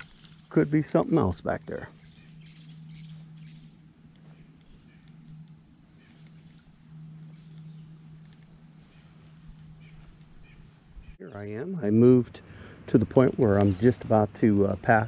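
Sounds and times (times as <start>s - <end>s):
faint low hum: 0.0s - 15.0s
insect trilling: 0.0s - 15.0s.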